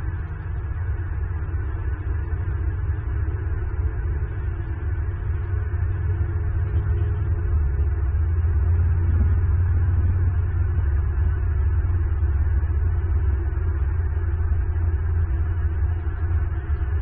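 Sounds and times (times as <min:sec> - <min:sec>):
loud steady low rumble: 0:00.0 - 0:17.0.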